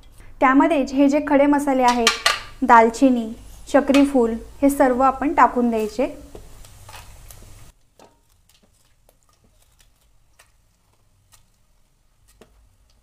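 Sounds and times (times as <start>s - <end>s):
spices crackling in hot oil: 2.0s - 13.0s.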